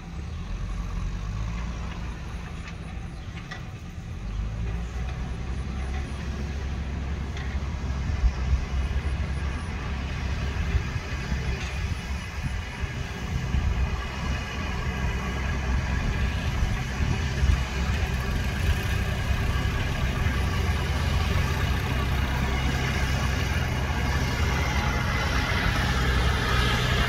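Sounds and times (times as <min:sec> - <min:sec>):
backhoe diesel engine under load: 0:00.0 - 0:27.0.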